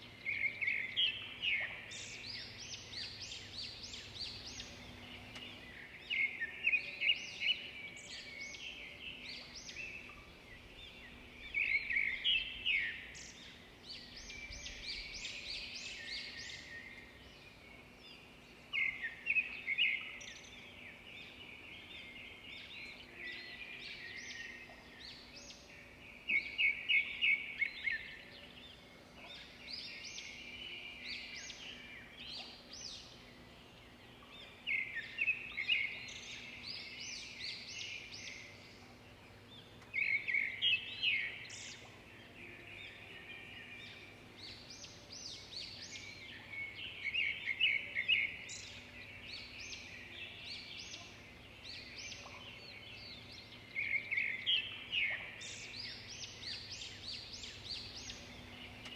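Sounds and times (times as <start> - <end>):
loud rapid bird song: 0.0 - 58.9
quiet birds chirping: 0.0 - 58.9.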